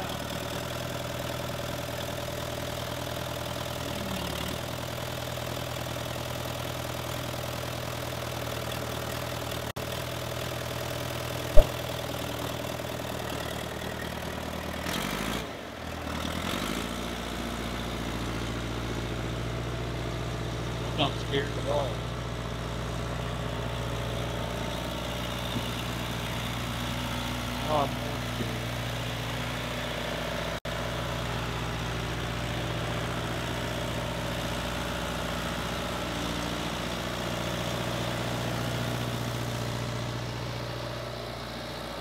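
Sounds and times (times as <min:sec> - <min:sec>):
backhoe engine idling: 0:00.0 - 0:42.0.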